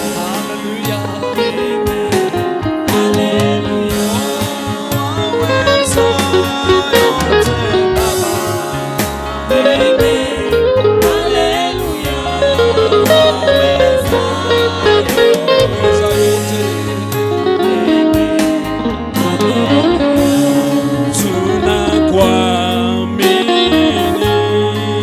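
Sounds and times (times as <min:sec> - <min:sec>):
band with guitar and drums: 0:00.0 - 0:25.0
voices singing worship music: 0:00.0 - 0:25.0.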